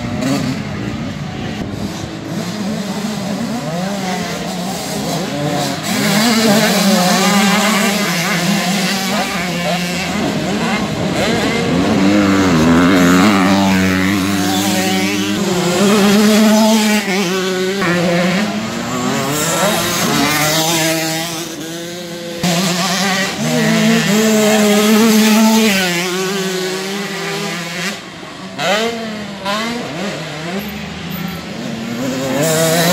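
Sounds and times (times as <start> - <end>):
motocross engines revving: 0.0 - 32.9.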